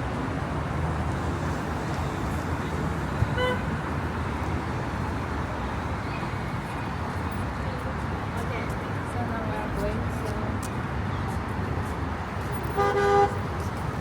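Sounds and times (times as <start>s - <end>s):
urban background noise: 0.0s - 14.0s.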